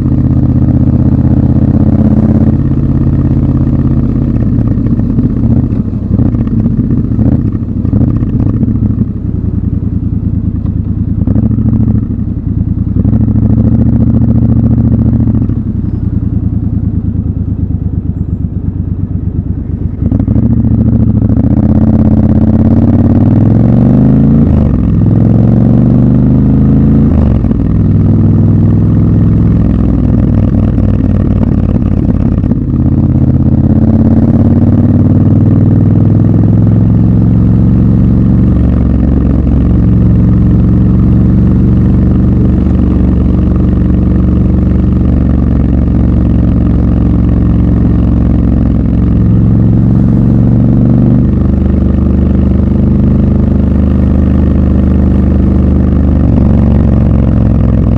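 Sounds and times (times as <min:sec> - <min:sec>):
motorcycle engine idling: 0:00.0 - 0:23.4, 0:27.3 - 0:57.9
motorcycle accelerating through gears: 0:00.0 - 0:57.9.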